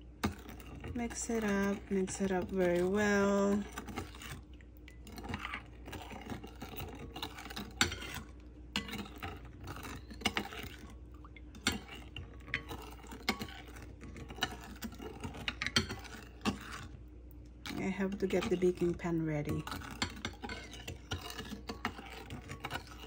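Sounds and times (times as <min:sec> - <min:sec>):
metal spoon scraping glass bowl: 0:00.2 - 0:17.0, 0:17.6 - 0:23.0.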